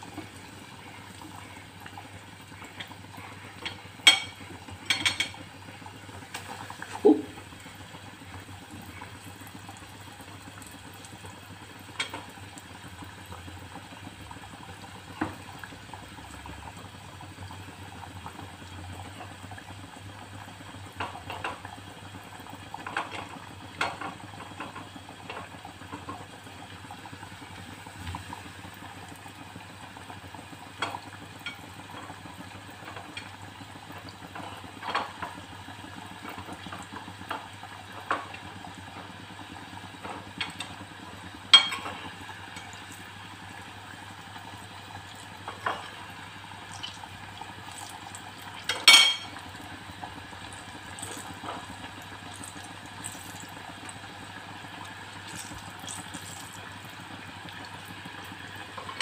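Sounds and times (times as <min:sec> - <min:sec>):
deep-frying sizzle: 0:00.0 - 0:59.0.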